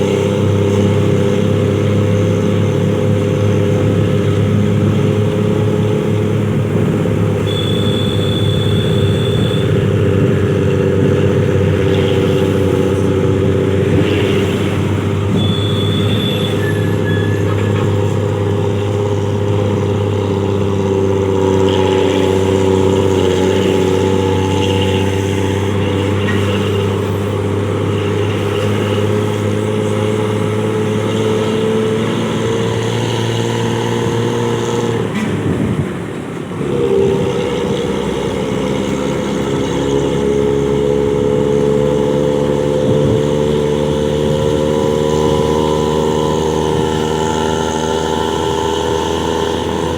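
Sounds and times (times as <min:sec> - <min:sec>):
bus engine droning: 0:00.0 - 0:49.9.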